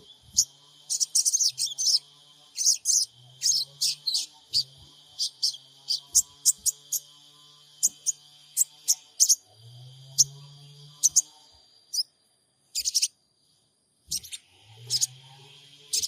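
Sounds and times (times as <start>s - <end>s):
bird chirping: 0.0s - 13.2s, 14.0s - 16.0s.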